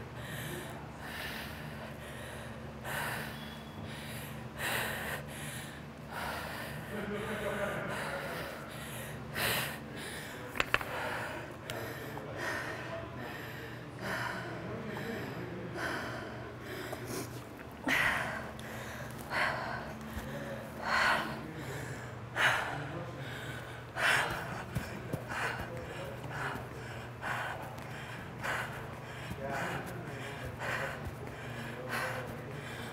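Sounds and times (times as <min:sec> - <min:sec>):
steady low hum: 0:00.0 - 0:32.9
woman breathing hard: 0:00.0 - 0:32.9.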